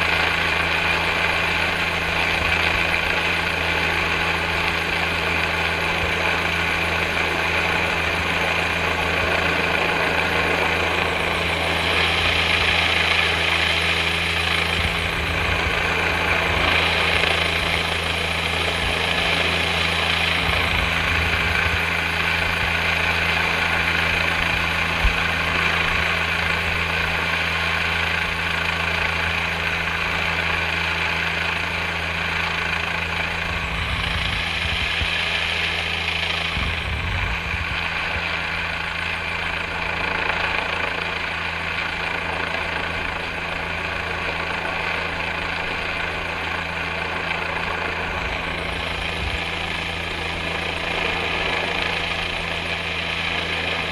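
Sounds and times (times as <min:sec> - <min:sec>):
helicopter hovering: 0:00.0 - 0:53.9.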